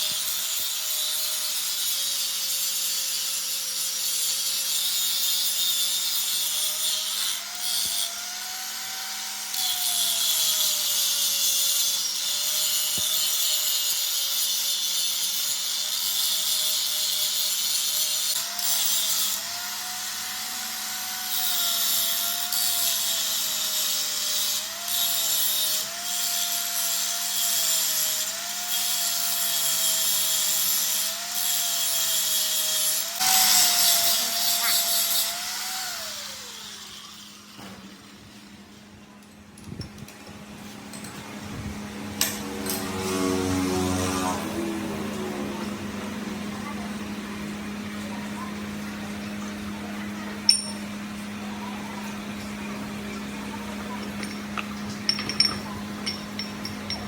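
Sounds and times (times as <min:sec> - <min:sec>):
power tool grinding metal: 0:00.0 - 0:38.6, 0:42.0 - 0:46.8, 0:52.1 - 0:57.0.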